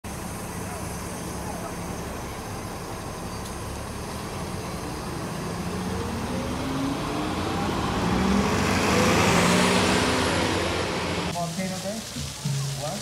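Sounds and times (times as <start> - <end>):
bus engine accelerating: 0.0 - 11.4.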